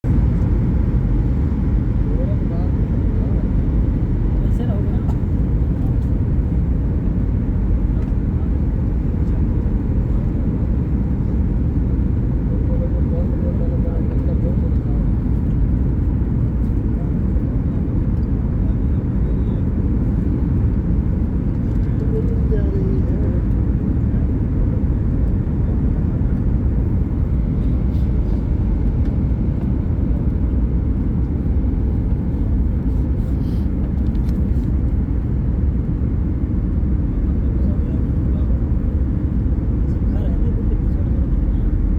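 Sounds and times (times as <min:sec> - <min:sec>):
jet engine rumble in cabin: 0:00.0 - 0:41.9.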